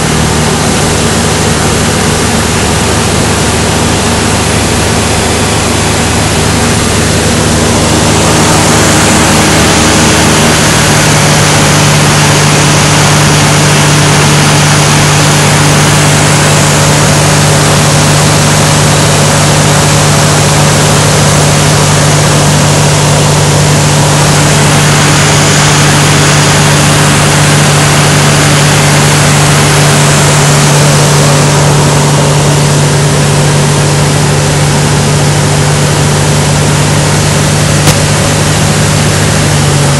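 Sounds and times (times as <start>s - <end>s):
rushing air: 0.0s - 35.1s
light aircraft engine drone: 0.0s - 39.9s.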